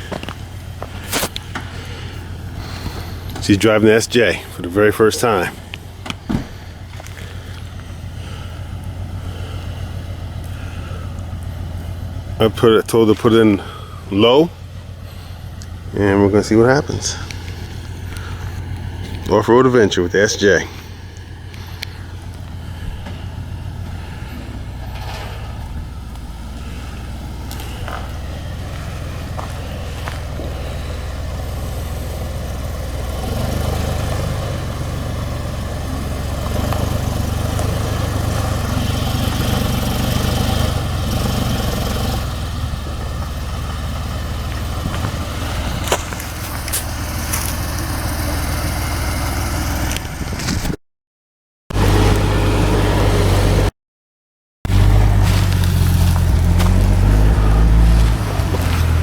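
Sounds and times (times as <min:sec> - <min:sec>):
off-road vehicle engine crawling: 0:00.0 - 0:50.8, 0:51.7 - 0:53.7, 0:54.7 - 0:59.0.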